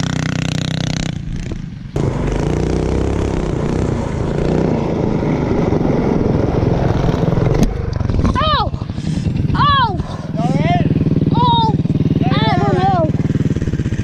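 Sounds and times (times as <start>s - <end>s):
minibike engine running: 2.0s - 14.0s.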